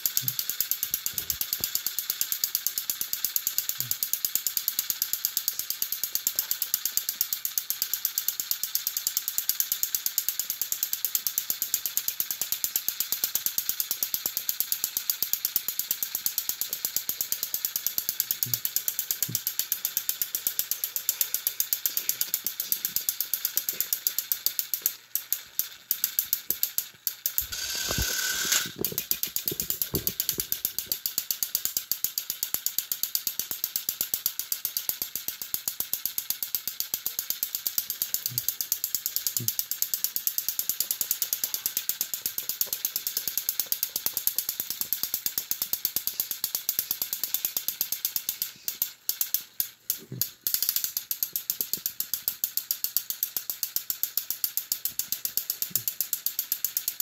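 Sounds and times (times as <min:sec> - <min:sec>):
toy train gearbox clicking: 0:00.0 - 0:57.0.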